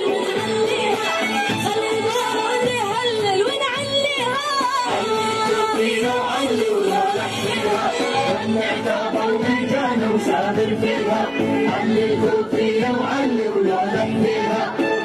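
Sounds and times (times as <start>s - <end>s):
rhythmic beat: 0.0s - 15.0s.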